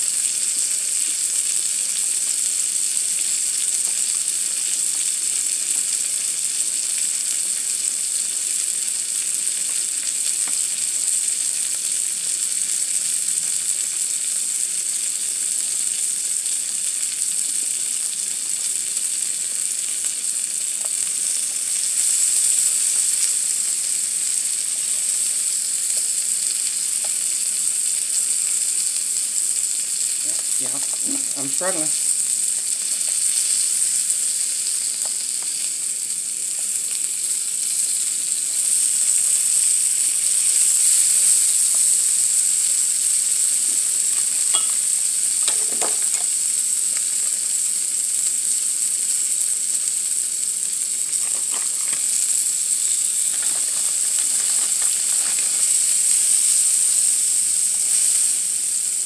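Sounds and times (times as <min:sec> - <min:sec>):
shrimp sizzling on a grill: 0:00.0 - 0:59.0.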